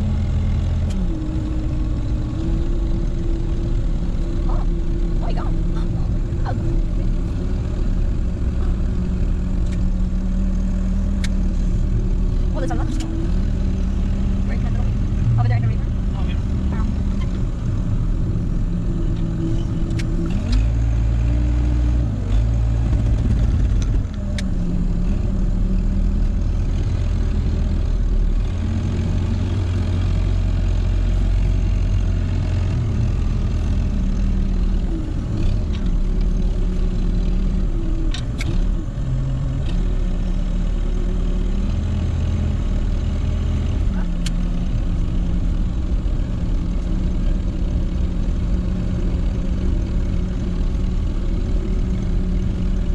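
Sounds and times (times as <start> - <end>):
tractor diesel engine: 0.0 - 52.9.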